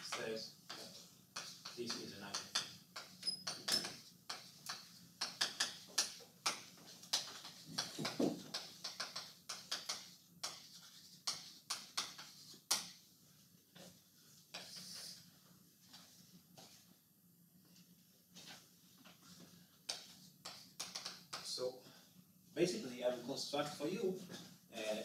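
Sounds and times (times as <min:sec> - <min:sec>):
chalk tapping and scratching: 0:00.0 - 0:16.9, 0:17.7 - 0:21.5.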